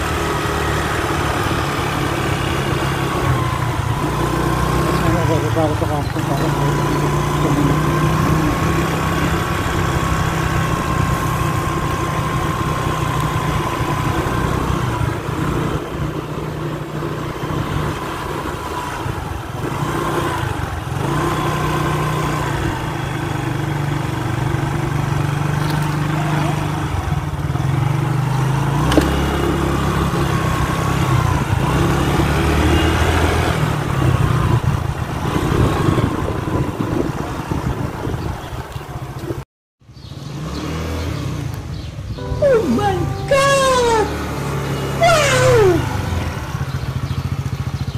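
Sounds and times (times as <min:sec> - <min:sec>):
motor scooter engine: 0:00.0 - 0:47.9.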